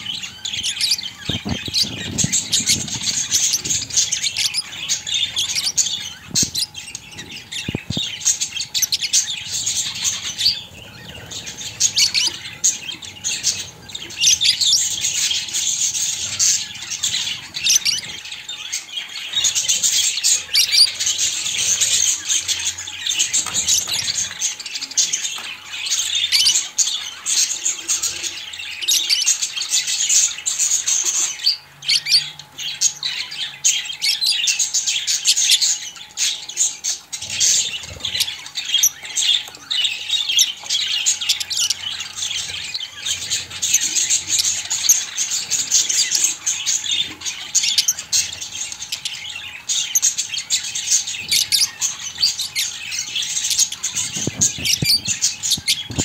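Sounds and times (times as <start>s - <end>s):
budgerigars chirping: 0.0s - 56.0s.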